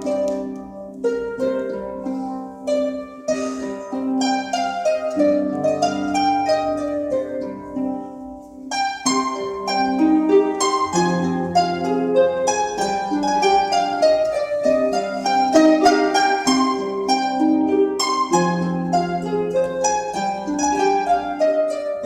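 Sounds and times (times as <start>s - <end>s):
harp ensemble playing: 0.0s - 22.0s.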